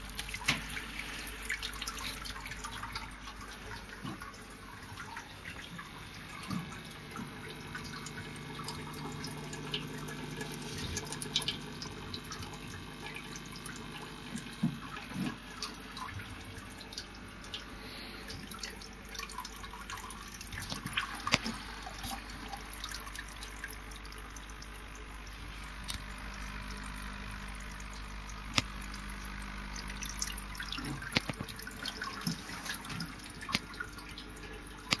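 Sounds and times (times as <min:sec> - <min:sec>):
water trickling and dripping: 0:00.0 - 0:35.0.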